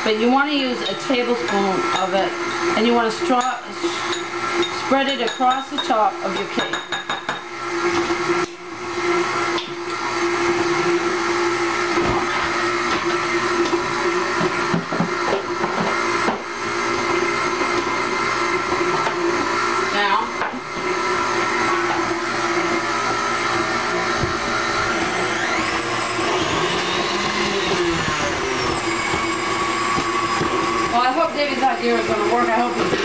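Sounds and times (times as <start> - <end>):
stand mixer motor whine: 0.0 - 33.0.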